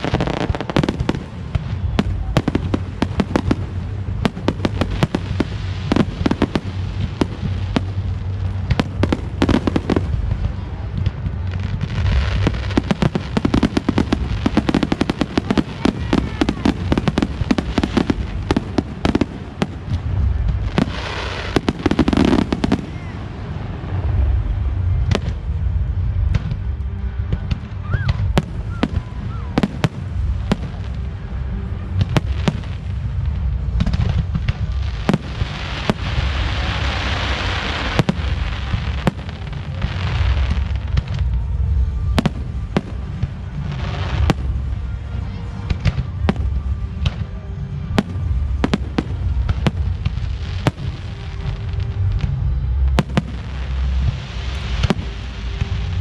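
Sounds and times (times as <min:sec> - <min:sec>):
continuous low rumble: 0:00.0 - 0:56.0
fireworks bursting bangs: 0:00.0 - 0:56.0
fireworks crackling: 0:00.0 - 0:56.0.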